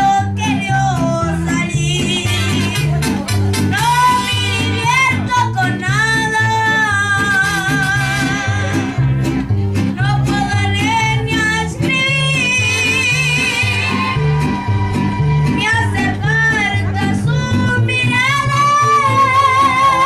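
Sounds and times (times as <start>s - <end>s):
person singing with vibrato: 0.0s - 9.2s, 10.0s - 20.0s
bouncing bass line: 0.0s - 20.0s
guitar: 0.0s - 20.0s.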